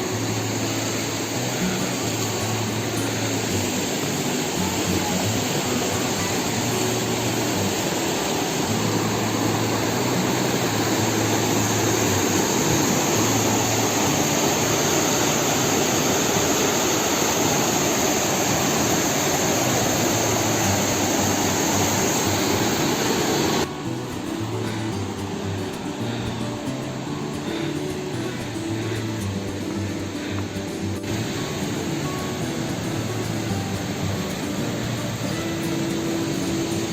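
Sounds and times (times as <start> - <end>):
water rushing loudly: 0.0 - 36.9.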